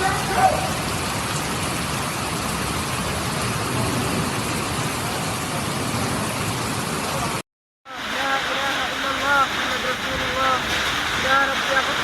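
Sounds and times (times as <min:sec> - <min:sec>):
heavy rain downpour: 0:00.0 - 0:12.0.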